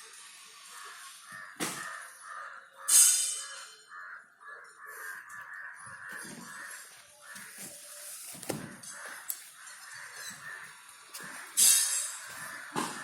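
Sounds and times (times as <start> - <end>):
birds cawing: 0.6 - 13.0.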